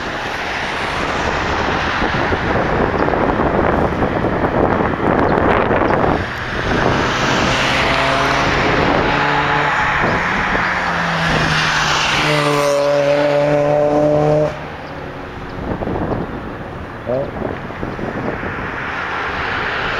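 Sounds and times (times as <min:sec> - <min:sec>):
aircraft passing close by: 0:00.0 - 0:19.9.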